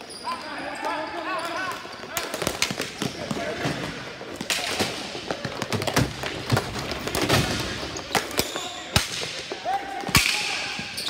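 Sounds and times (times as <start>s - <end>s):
players' voices: 0.0s - 11.0s.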